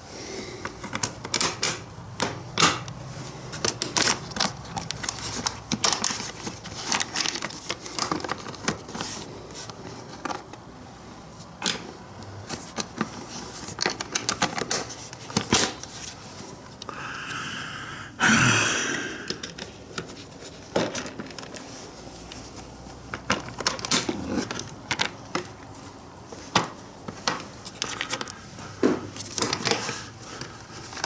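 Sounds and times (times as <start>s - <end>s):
clicks and knocks of tools and parts: 0.6s - 10.6s, 11.4s - 16.9s, 19.3s - 31.0s.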